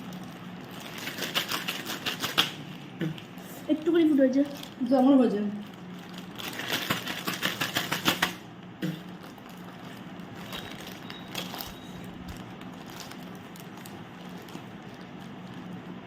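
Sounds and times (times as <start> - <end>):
plastic snack packet crinkling: 0.0 - 16.0
steady low hum: 0.0 - 16.0.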